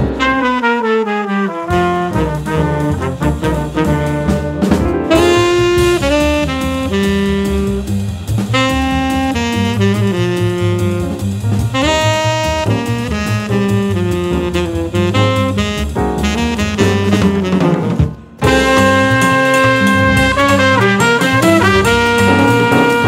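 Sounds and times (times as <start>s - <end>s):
jazz band playing: 0.0s - 23.0s
tenor saxophone: 0.0s - 23.0s
walking bass: 1.7s - 23.0s.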